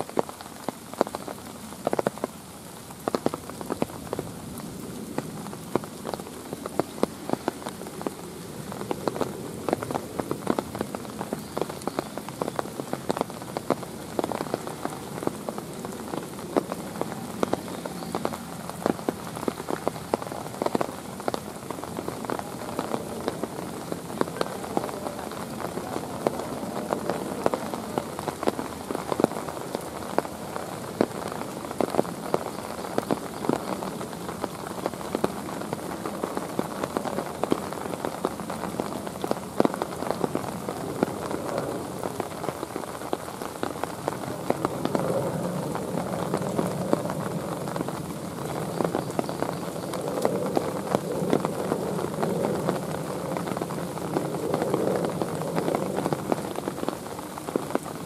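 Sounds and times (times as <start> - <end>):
raindrops ticking on surface: 0.0 - 58.0
steady rain: 0.0 - 58.0.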